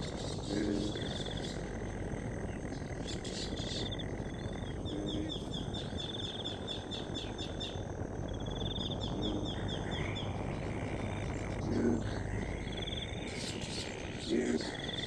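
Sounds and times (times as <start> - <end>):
low croak: 0.0 - 15.0.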